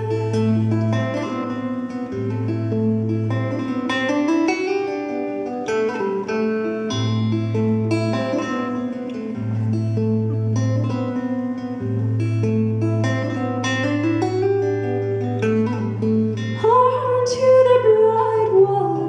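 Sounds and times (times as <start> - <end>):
acoustic guitar picking: 0.0 - 19.0.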